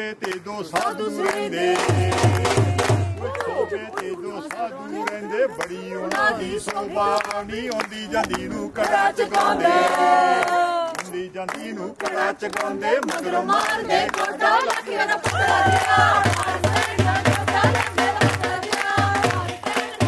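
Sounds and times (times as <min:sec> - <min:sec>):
men and women singing together: 0:00.0 - 0:20.0
handclaps: 0:00.2 - 0:20.0.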